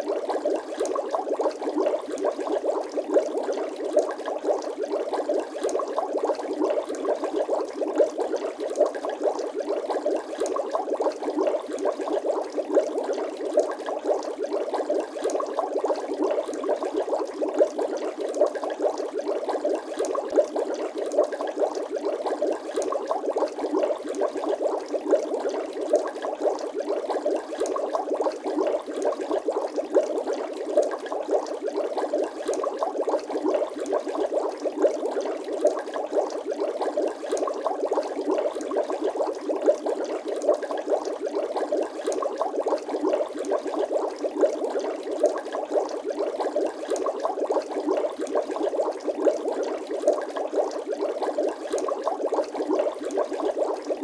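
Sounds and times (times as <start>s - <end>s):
bubbling liquid: 0.0s - 54.0s.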